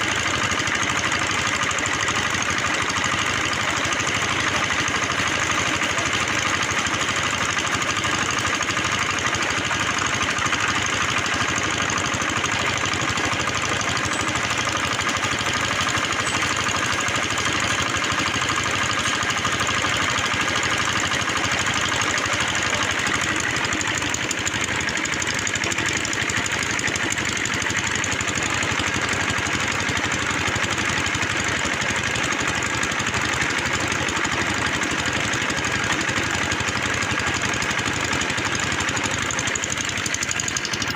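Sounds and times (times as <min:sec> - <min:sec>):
drilling machine engine running: 0:00.0 - 0:40.9.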